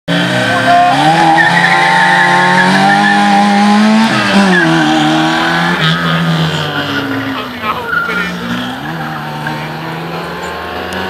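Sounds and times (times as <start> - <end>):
car engine revving hard: 0.1 - 11.0
tyres squealing: 0.3 - 11.0.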